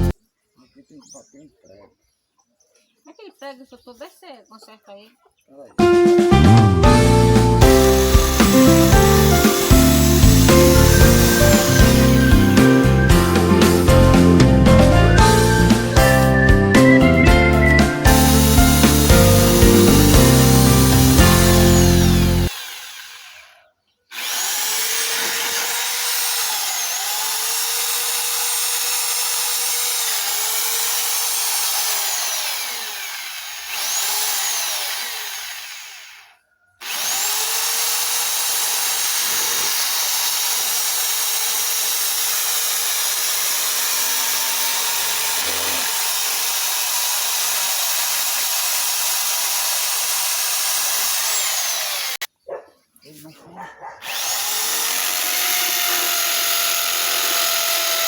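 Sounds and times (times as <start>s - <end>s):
power tool whining: 6.5s - 52.3s, 54.0s - 58.0s.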